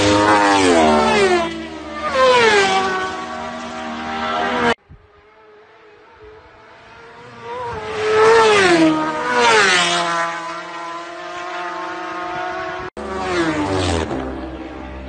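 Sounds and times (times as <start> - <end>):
motorcycles passing at high speed: 0.0 - 15.0.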